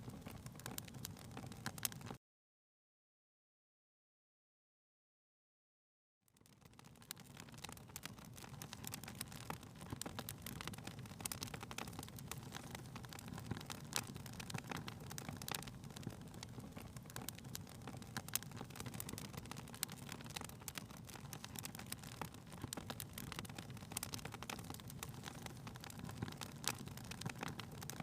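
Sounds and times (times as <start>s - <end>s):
wood fire crackling: 0.0s - 2.2s, 6.3s - 28.0s.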